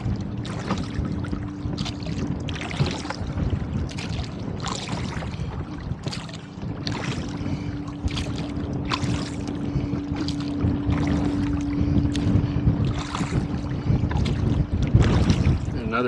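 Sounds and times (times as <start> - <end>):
low hum: 0.0 - 16.0
water splashing and slapping: 0.0 - 16.0
wind buffeting microphone: 0.0 - 16.0.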